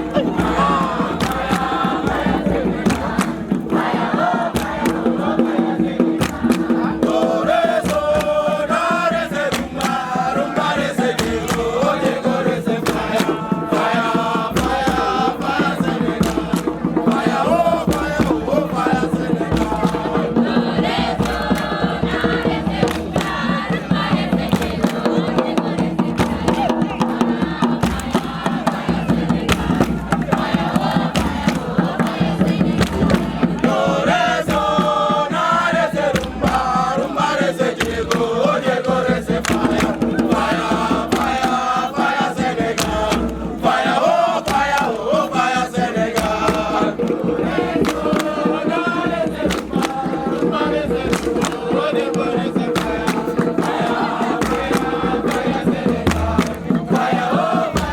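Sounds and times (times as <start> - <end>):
crowd chanting and singing: 0.0 - 57.9
sharp percussive hits: 0.0 - 57.9.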